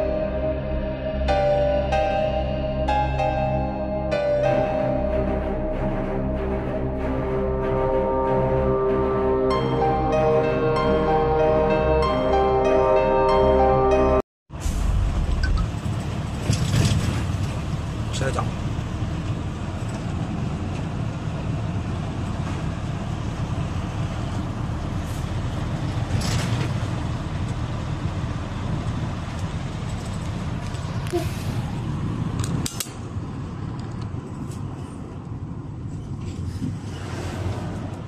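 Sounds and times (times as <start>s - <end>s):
vehicle rumble on road: 0.0s - 38.0s.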